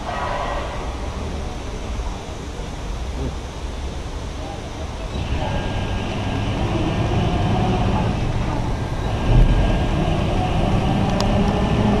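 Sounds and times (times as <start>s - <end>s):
faint steady whine: 0.0s - 12.0s
gantry crane mechanical rumble: 0.0s - 12.0s.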